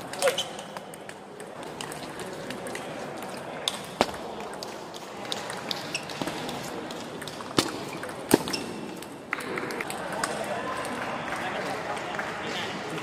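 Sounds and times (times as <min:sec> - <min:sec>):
ping-pong ball hits and bounces: 0:00.0 - 0:11.0.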